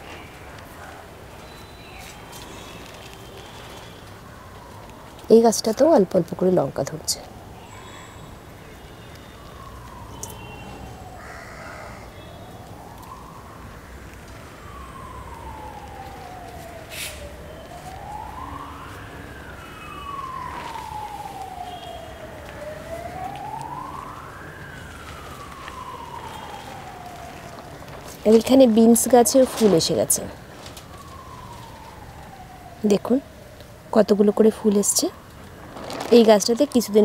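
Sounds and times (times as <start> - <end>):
emergency siren wailing: 0.0 - 37.0.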